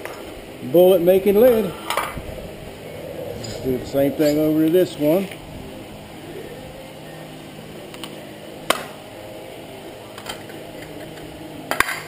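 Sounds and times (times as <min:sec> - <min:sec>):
steady low hum: 0:00.2 - 0:11.8.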